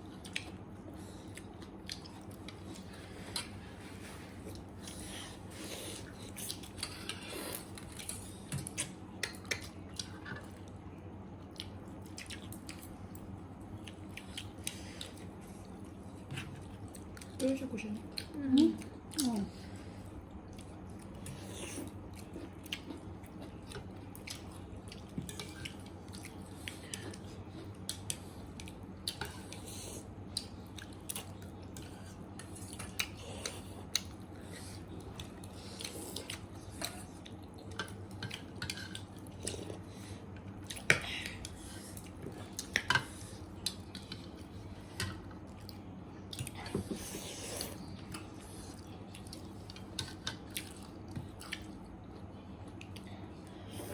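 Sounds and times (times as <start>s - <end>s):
faint steady hum: 0.0s - 53.9s
person chewing food: 0.1s - 17.4s, 18.0s - 53.9s.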